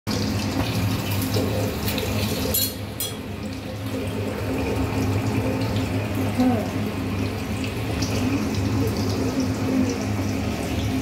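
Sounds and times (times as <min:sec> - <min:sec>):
tap water running into pot: 0:00.1 - 0:11.0.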